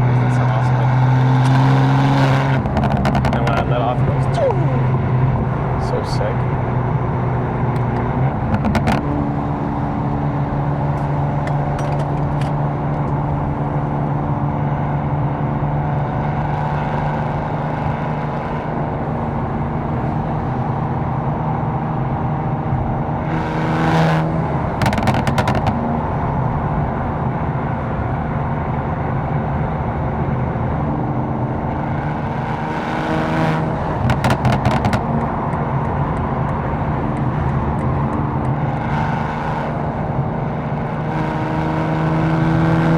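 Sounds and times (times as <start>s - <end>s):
car engine running steadily: 0.0s - 42.9s.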